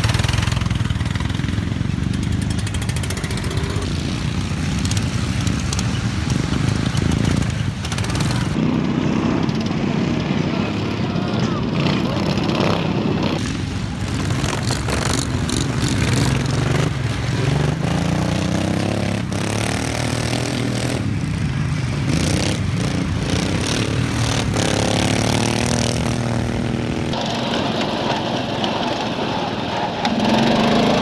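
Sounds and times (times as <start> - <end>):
lawn mower engines revving: 0.0 - 31.0.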